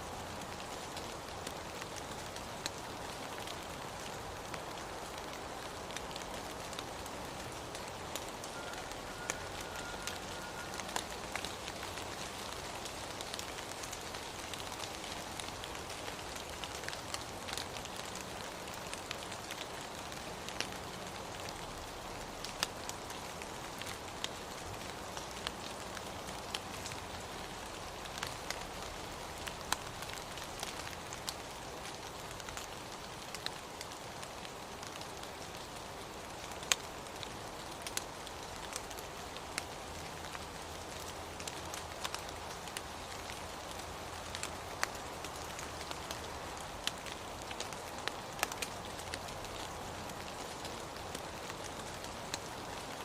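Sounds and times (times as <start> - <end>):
raindrops ticking on a surface: 0.0 - 53.0
steady rain hiss: 0.0 - 53.0.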